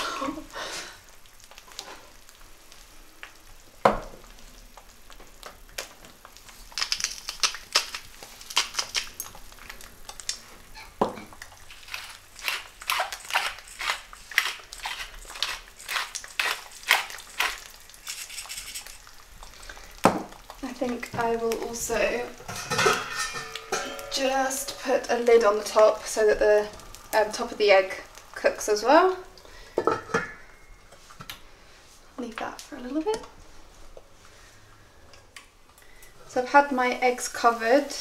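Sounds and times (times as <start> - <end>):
eggs sizzling in a pan: 0.0 - 38.0.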